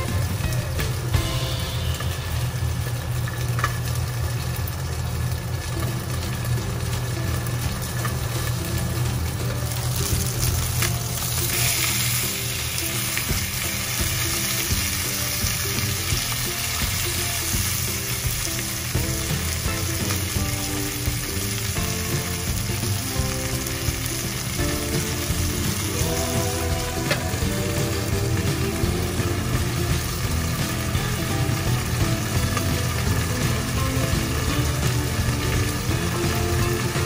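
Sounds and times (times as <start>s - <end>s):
chicken sizzling in frying pan: 0.0s - 37.0s.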